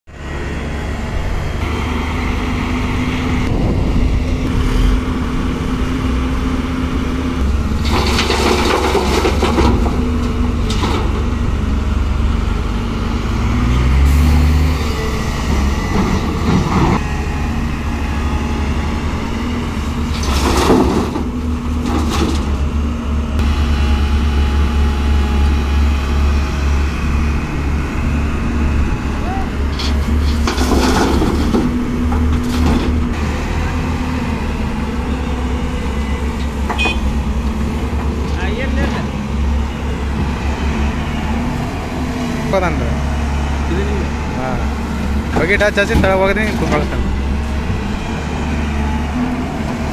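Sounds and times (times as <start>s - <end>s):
excavator diesel engine: 0.1s - 49.9s.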